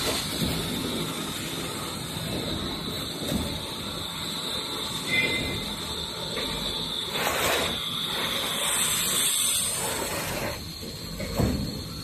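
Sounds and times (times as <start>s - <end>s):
machinery running: 0.0s - 12.0s.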